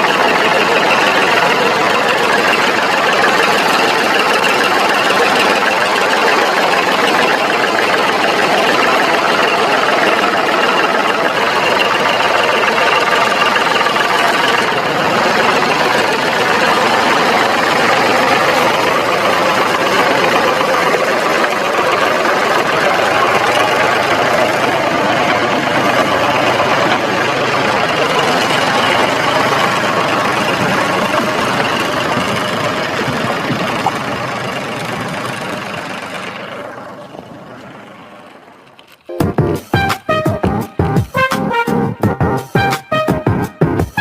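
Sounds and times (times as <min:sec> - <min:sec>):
engine running with knocking chug: 0:00.0 - 0:44.0.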